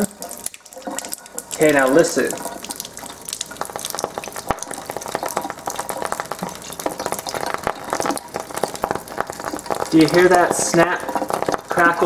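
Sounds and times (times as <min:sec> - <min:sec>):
crackling and popping flame: 0:00.0 - 0:12.0.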